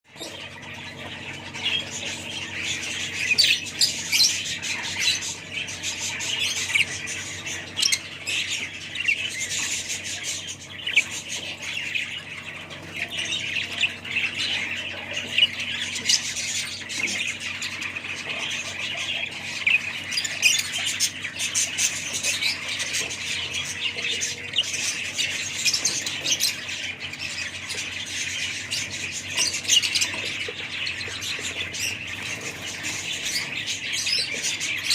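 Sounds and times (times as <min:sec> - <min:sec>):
budgerigars chattering and squawking: 0:00.1 - 0:34.9.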